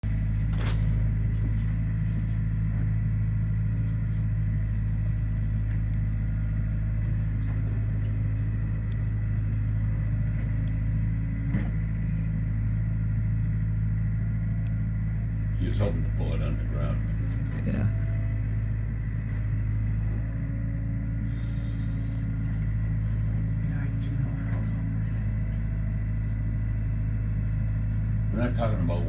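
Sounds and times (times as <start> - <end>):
engine idling with deep hum: 0.0 - 29.0.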